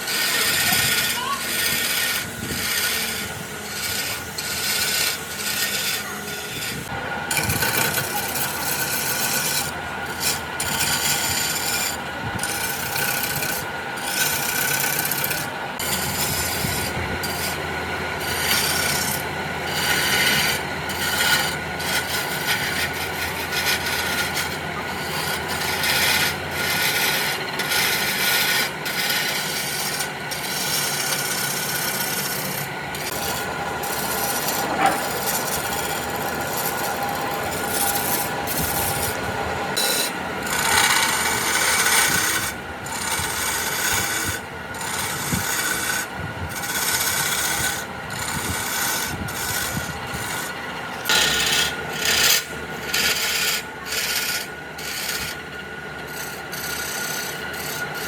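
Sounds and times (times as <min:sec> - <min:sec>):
wood being sanded by hand: 0:00.0 - 0:58.0.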